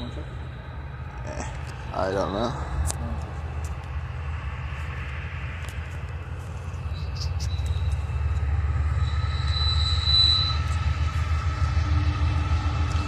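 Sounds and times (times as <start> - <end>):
diesel locomotive engine rumble: 0.0 - 13.0
high whine: 0.0 - 13.0.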